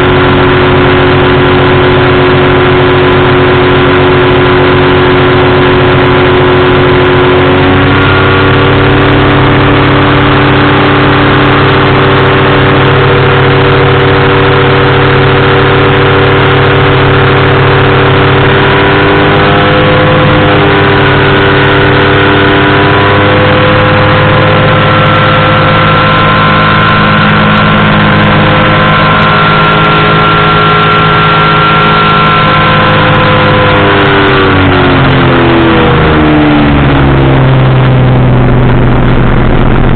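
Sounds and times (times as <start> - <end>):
engine and propeller in flight: 0.0 - 39.9.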